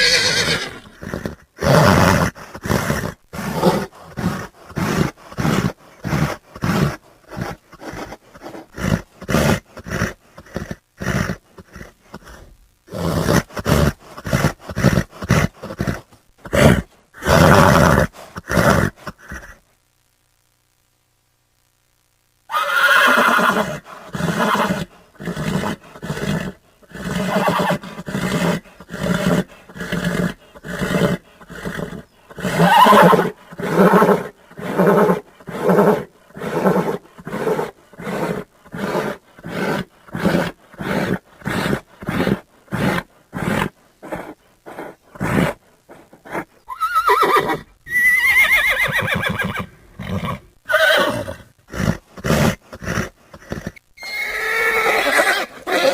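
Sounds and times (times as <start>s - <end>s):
horses neighing: 0.0s - 12.2s, 22.5s - 55.9s.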